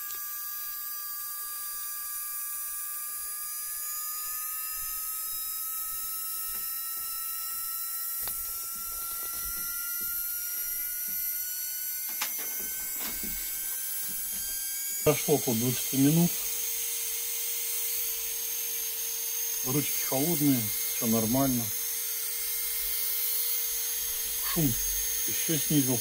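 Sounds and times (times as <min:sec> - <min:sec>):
micromotor high whine: 0:00.0 - 0:26.0.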